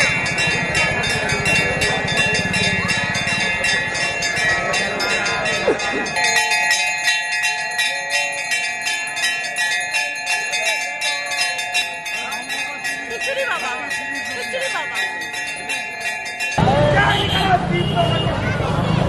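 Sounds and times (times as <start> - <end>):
lower-pitched bell: 0.0 - 16.8
temple bells rung rapidly: 0.0 - 18.8.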